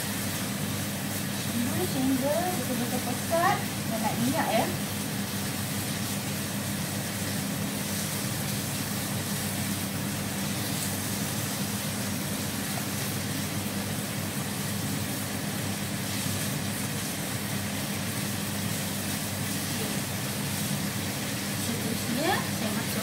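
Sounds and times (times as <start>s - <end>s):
sauce sizzling in a pan: 0.0s - 23.0s.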